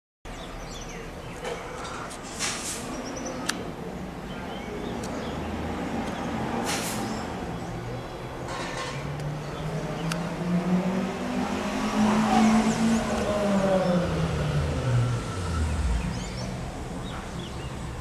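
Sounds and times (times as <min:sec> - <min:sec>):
passing vehicle engine hum: 0:01.4 - 0:18.0.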